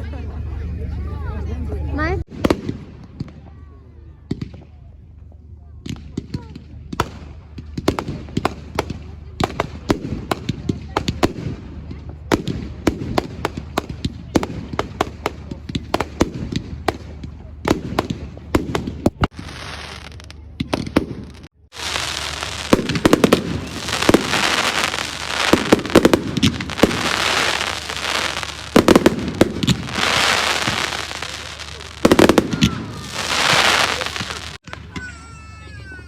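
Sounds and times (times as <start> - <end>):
fireworks bangs: 2.2 - 5.2, 5.8 - 35.1
crackling fireworks shells: 5.9 - 35.1.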